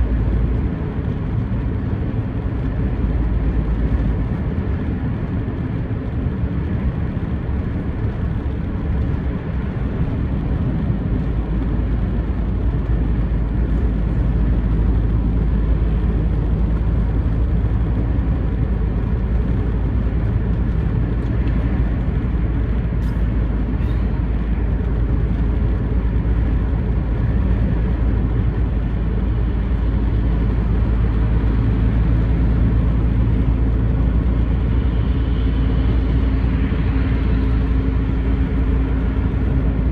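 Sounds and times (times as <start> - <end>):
engine hum: 0.0 - 39.9.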